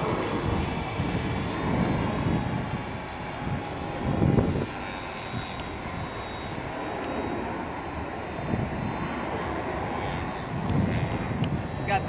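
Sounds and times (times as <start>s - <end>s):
model airplane motor whine: 0.0s - 12.0s
wind on microphone: 0.0s - 12.0s.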